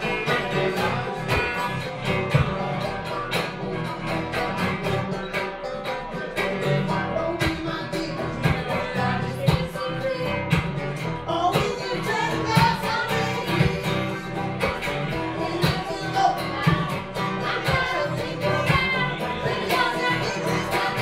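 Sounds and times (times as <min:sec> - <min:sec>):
man singing: 0:00.0 - 0:02.9, 0:06.8 - 0:21.0
acoustic guitar strumming: 0:00.0 - 0:21.0
banjo playing: 0:00.0 - 0:21.0.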